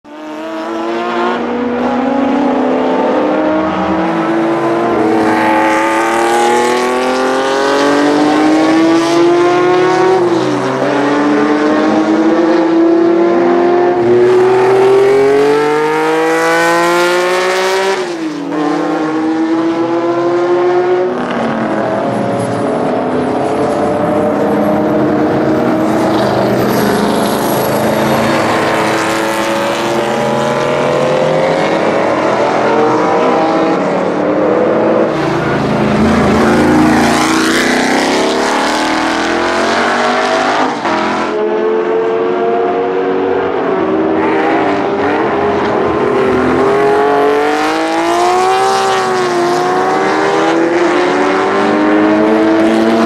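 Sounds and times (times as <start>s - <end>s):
racing car engine accelerating: 0.1s - 53.0s.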